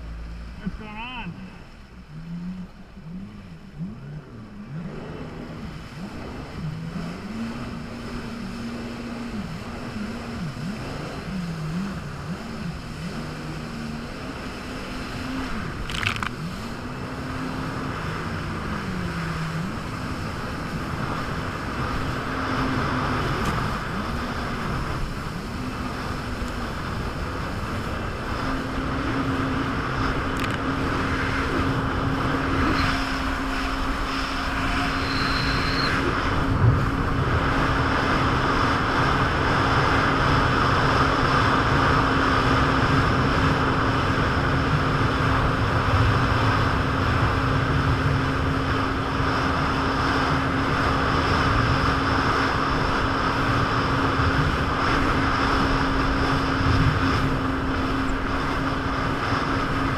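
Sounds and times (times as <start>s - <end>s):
jet ski engine revving: 0.0s - 59.9s
water and wind rushing: 0.0s - 59.9s.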